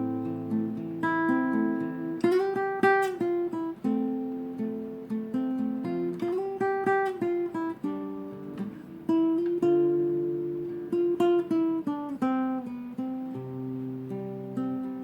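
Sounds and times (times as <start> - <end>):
acoustic guitar plucked melody: 0.0 - 15.0.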